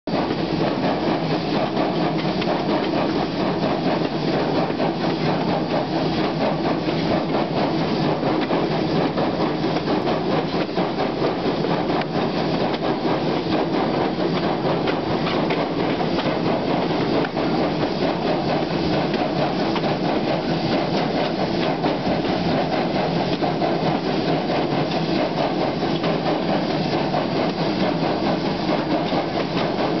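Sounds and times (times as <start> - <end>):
steam locomotive exhaust chuffing: 0.1 - 30.0.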